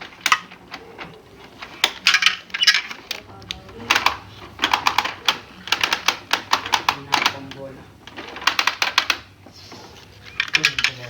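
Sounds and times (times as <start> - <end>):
plastic toy pieces clicking: 0.0 - 11.0.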